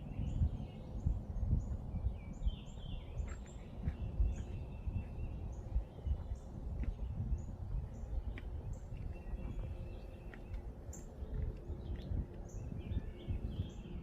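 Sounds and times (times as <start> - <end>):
birds chirping: 0.0 - 14.0
wind buffeting microphone: 0.0 - 14.0.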